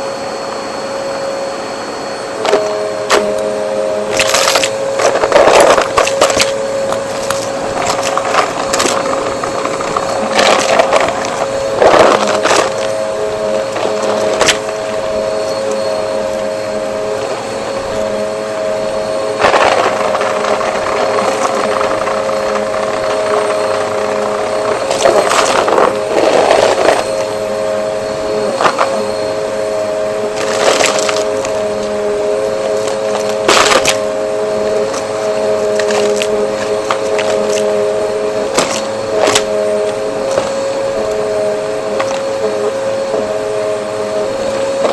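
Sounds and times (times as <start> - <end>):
vacuum cleaner motor whine: 0.0 - 44.9
debris rattling up nozzle: 2.4 - 27.5, 30.2 - 43.3.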